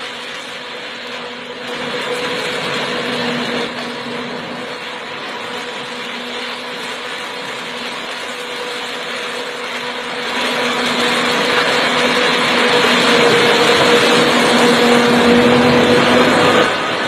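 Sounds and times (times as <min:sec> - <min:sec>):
tree-cutting machine running: 0:00.0 - 0:17.0.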